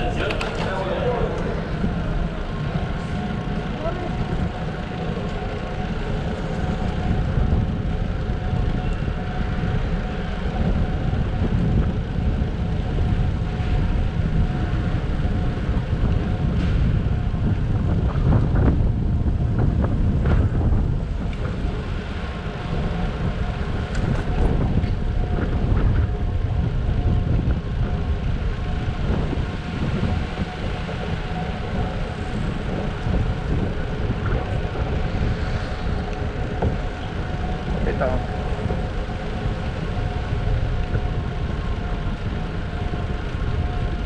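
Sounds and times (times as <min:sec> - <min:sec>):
bicycle road rumble: 0:00.0 - 0:44.0
wind rush on microphone: 0:00.0 - 0:44.0.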